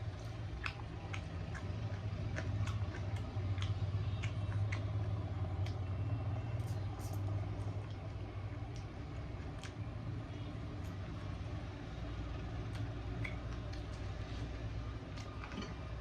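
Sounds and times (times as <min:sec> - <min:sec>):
chewing with wet mouth clicks: 0:00.0 - 0:11.1, 0:12.0 - 0:15.8
steady low hum: 0:00.0 - 0:16.0.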